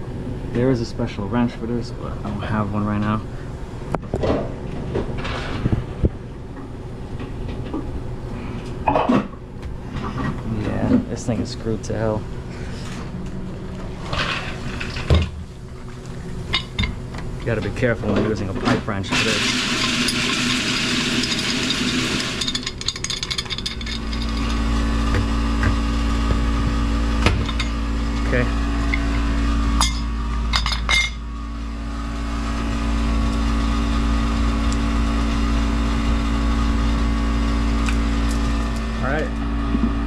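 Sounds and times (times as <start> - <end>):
steady low hum: 0.0 - 20.9, 22.3 - 40.0.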